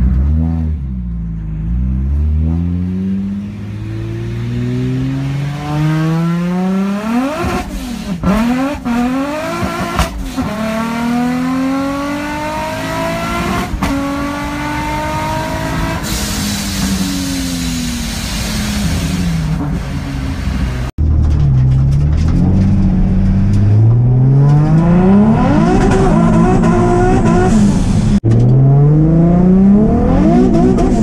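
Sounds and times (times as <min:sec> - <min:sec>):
car engine revving through gears: 0:01.6 - 0:31.0.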